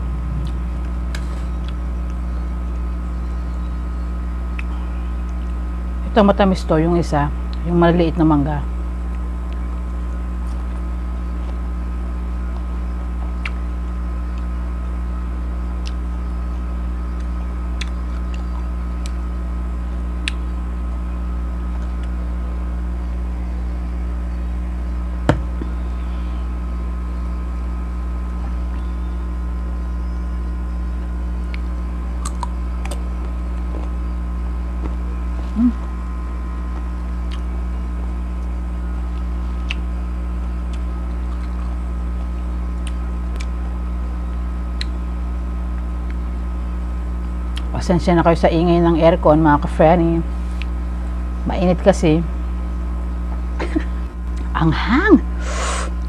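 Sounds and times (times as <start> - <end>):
air conditioner humming: 0.0 - 56.0.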